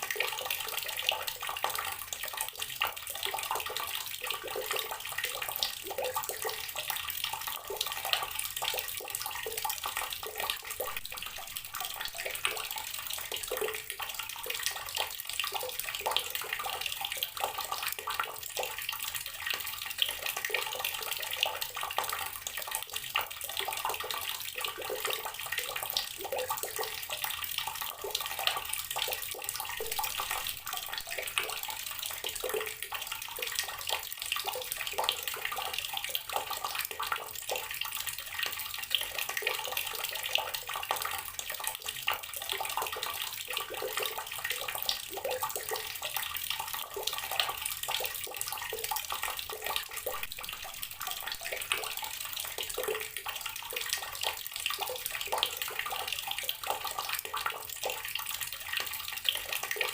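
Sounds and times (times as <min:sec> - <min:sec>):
water splashing from outdoor tap: 0:00.0 - 0:59.9.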